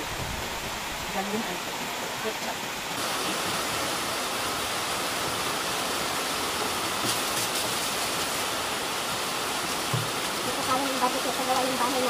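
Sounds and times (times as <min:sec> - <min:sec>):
heavy rain: 0:00.0 - 0:12.0
running water: 0:00.0 - 0:12.0.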